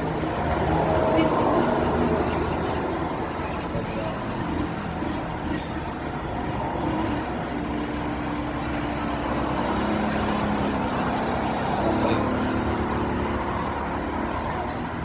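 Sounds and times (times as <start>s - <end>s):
motor vehicle noise: 0.0s - 15.0s.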